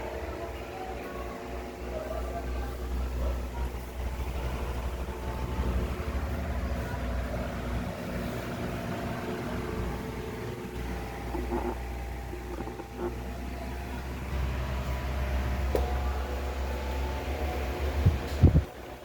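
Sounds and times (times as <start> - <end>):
electric fan motor hum: 0.0 - 19.0.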